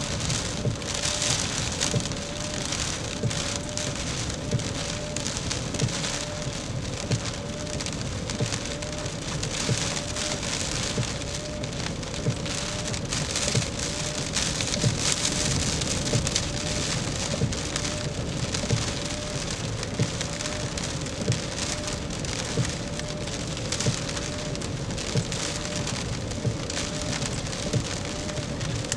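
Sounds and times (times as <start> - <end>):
heavy rain and wind: 0.0 - 28.9.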